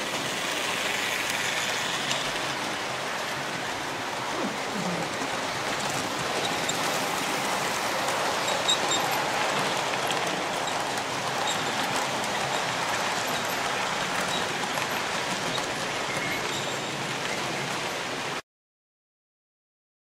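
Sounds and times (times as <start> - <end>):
model train wheels rumbling on rails: 0.0 - 18.4.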